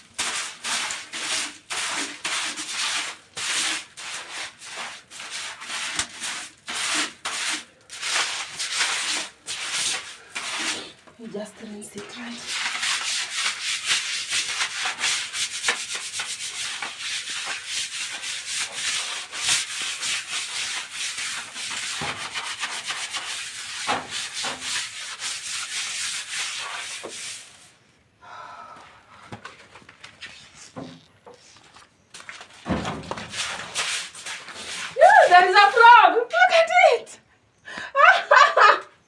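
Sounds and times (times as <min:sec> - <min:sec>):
bristles scrubbing a tiled floor: 0:00.1 - 0:27.8, 0:30.2 - 0:36.0.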